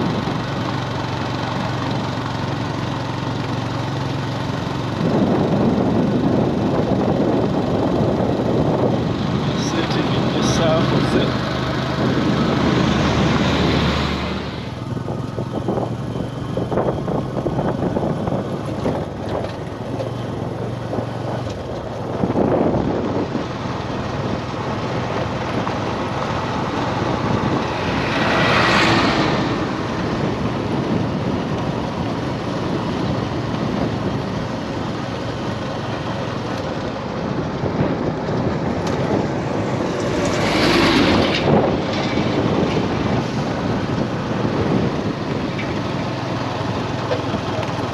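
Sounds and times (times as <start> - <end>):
road traffic: 0.0 - 47.9
vehicles passing close by: 0.0 - 47.9.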